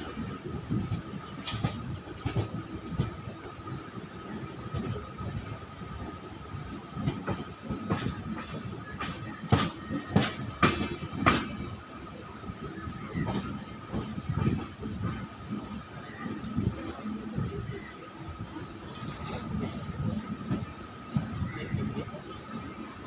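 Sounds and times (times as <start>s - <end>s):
train rumble inside coach: 0.0s - 23.0s.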